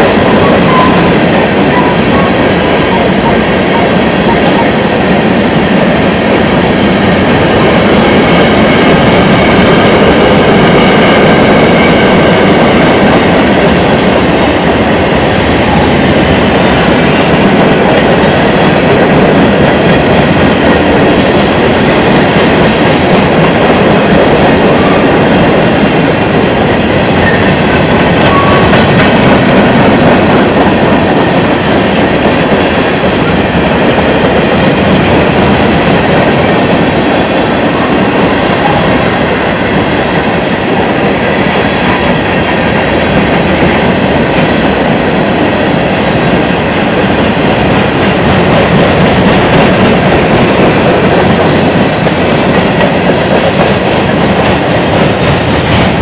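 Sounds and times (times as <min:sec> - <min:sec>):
freight train rumbling past: 0:00.0 - 0:56.0
steel wheels clattering on rails: 0:00.0 - 0:56.0.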